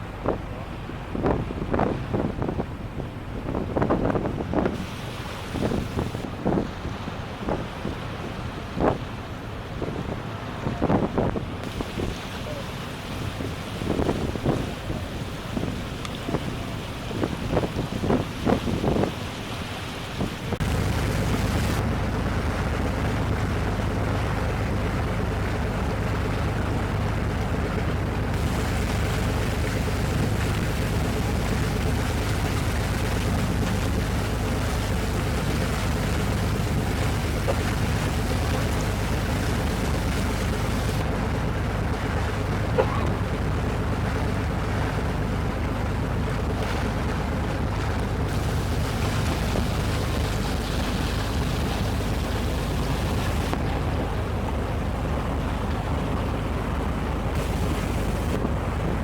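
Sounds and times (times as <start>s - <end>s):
boat engine drone: 0.0s - 59.0s
rushing water: 0.0s - 59.0s
wind: 0.0s - 59.0s.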